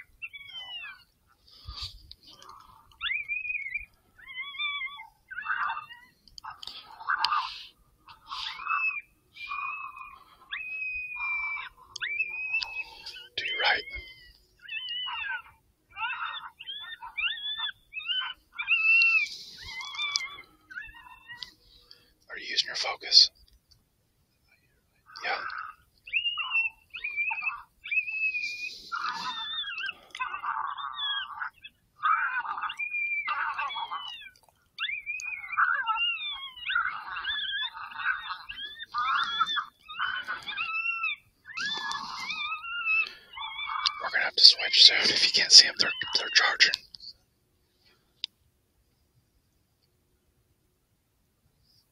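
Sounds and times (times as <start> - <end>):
coyote yips and whines: 0.0 - 23.5, 24.6 - 47.2.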